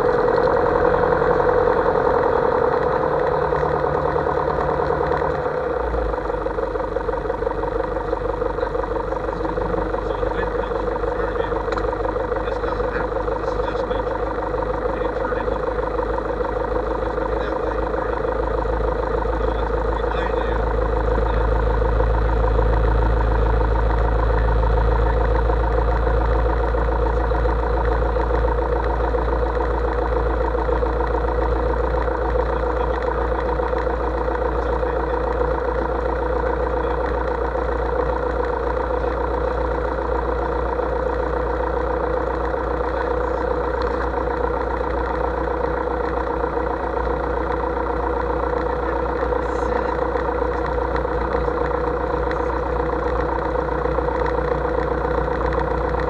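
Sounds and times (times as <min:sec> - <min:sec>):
light aircraft engine idling: 0:00.0 - 0:56.0.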